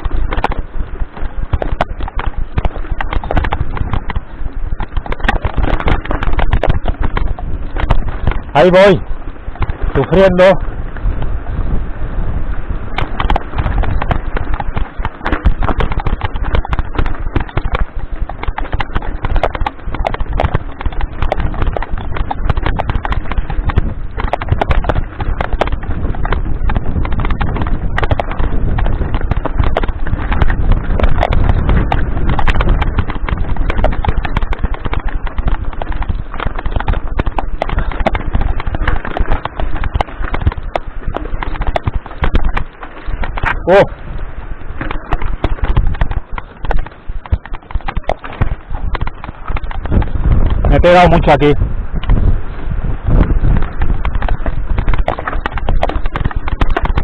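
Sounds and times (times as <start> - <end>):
mountain bike rattling over rocks: 0.0 - 57.0.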